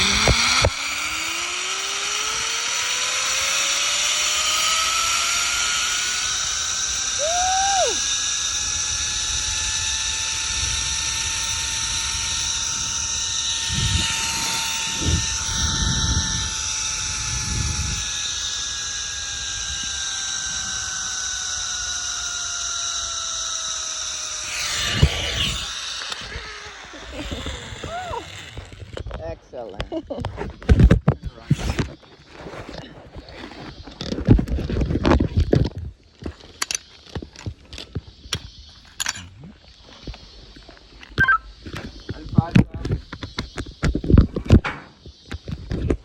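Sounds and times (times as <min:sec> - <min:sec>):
zip line pulley whine: 0:00.0 - 0:29.3, 0:30.2 - 0:46.0.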